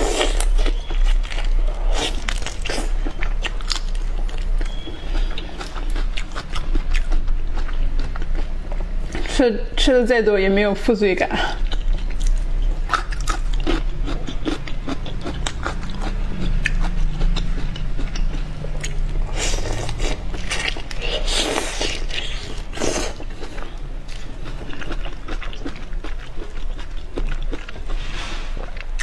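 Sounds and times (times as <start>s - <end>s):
person chewing food: 0.0s - 9.3s, 11.6s - 29.0s.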